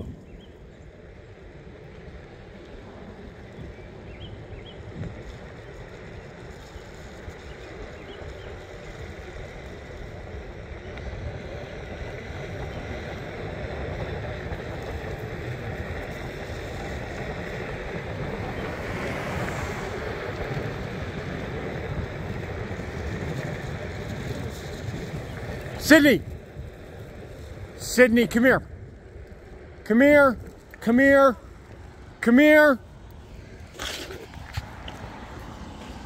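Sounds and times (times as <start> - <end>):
wind rumbling on microphone: 0.0 - 36.0.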